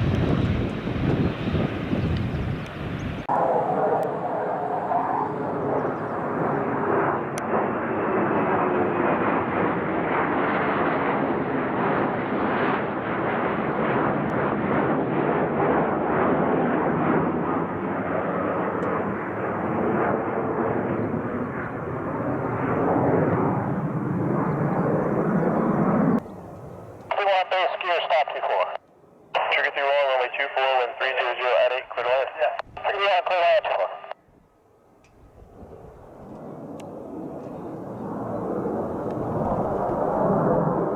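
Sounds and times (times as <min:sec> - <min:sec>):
fighter jet engine roar: 0:00.0 - 0:40.9.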